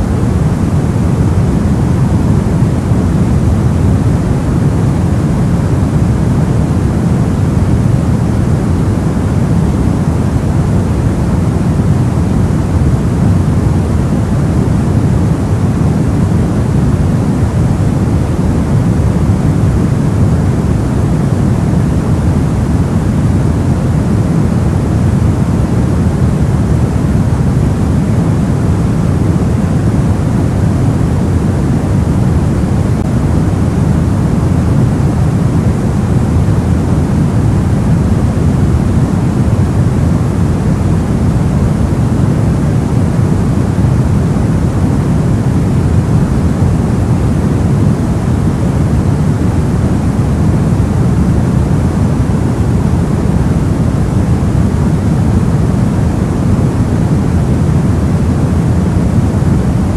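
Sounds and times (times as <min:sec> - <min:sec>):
low white noise hiss: 0:00.0 - 0:59.9.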